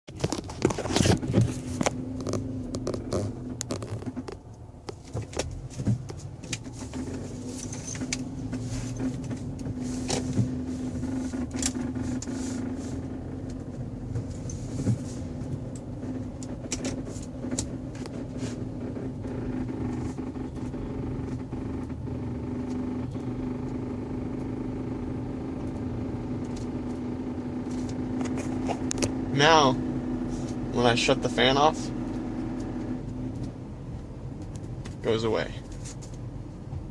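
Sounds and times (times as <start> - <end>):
engine bay hum: 0.1 - 36.9.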